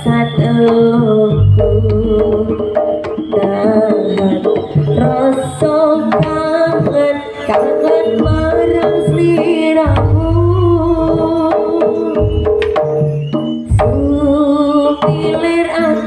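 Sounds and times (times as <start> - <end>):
hand drum patterns: 0.0 - 14.4.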